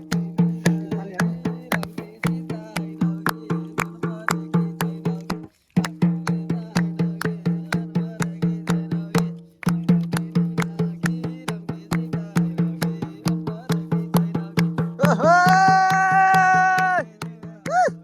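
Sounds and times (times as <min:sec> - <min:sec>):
drum beating steady rhythm: 0:00.0 - 0:18.0.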